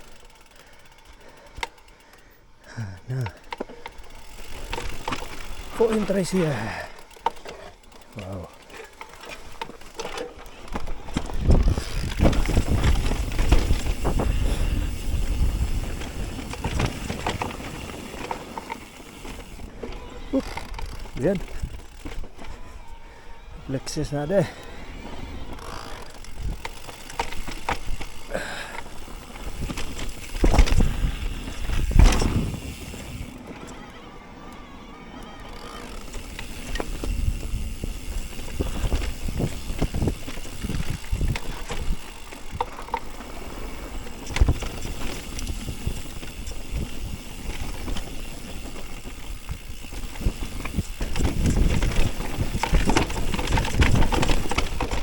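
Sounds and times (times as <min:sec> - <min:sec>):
bike knocking and rattling: 0:00.0 - 0:23.0, 0:23.9 - 0:33.9, 0:35.2 - 0:55.0
bike tyres rumbling on dirt: 0:02.7 - 0:33.9, 0:35.2 - 0:55.0.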